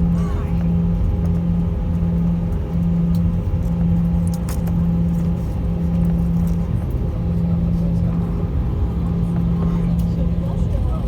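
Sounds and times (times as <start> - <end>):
jet airliner cabin noise: 0.0 - 11.0.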